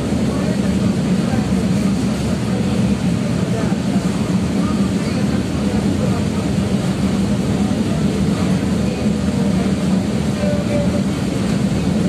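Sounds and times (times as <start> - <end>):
tram rumbling at speed: 0.0 - 12.0.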